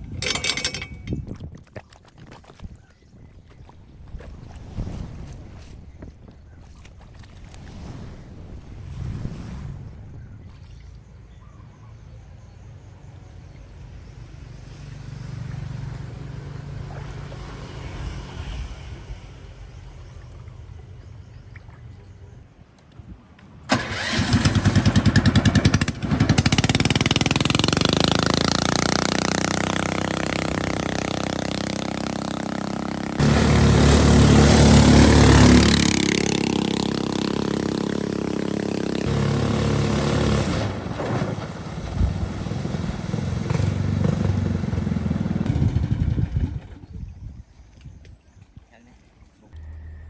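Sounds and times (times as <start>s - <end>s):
boat engine running: 0.0s - 9.0s, 9.9s - 22.5s, 23.7s - 47.4s.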